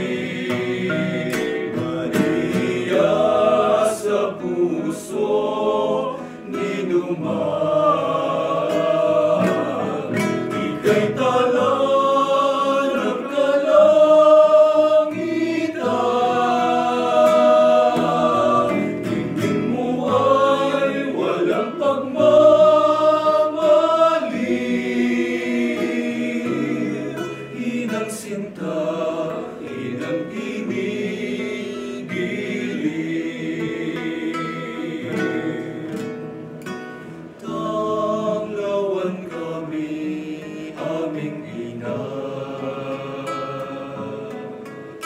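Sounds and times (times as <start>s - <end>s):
men singing a hymn: 0.0s - 36.4s, 37.4s - 45.0s
strummed acoustic guitar: 0.0s - 45.0s.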